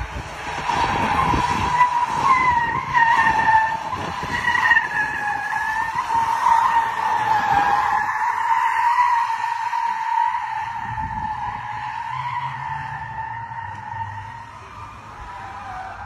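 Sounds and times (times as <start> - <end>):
car tyres squealing on asphalt: 0.0 - 16.0
engine rumble: 0.0 - 16.0.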